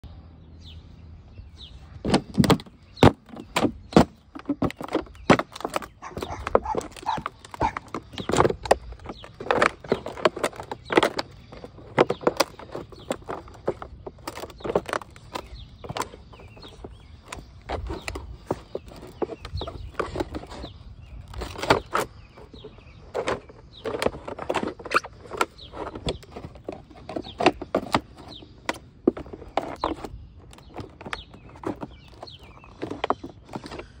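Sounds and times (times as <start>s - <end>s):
boots crushing cardboard boxes: 2.0s - 34.0s.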